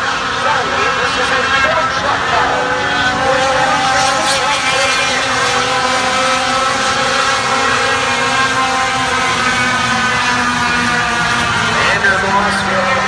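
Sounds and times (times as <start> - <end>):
race truck engines: 0.0 - 13.0.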